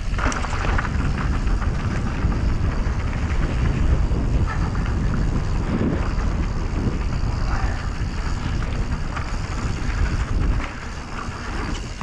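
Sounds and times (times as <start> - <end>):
tyre and trail rumble: 0.0 - 12.0
wind buffeting microphone: 0.0 - 12.0.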